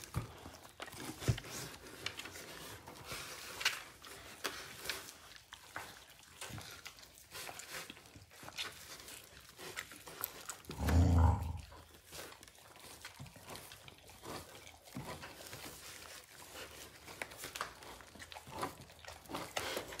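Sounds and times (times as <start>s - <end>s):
dogs gnawing a bone: 0.0s - 20.0s.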